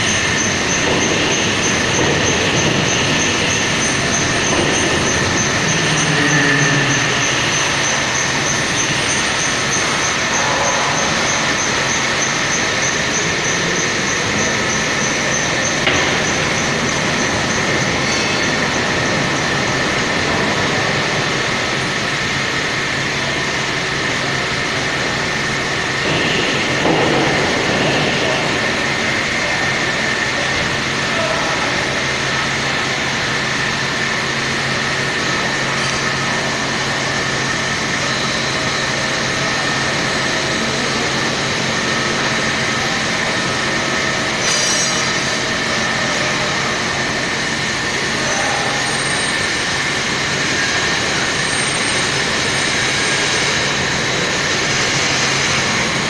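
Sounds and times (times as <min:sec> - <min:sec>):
hydraulic press humming and whining: 0:00.0 - 0:56.0
loud rough noise: 0:00.0 - 0:56.0.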